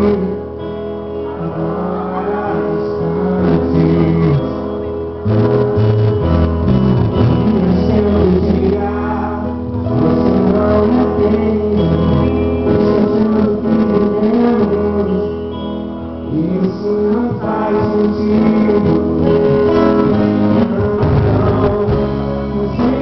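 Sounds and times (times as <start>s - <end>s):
live band guitar and drums: 0.0s - 23.0s
man singing: 0.0s - 23.0s.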